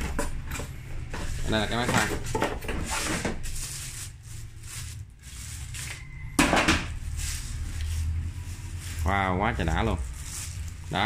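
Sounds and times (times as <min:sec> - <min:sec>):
cardboard and plastic rustling: 0:00.0 - 0:11.0.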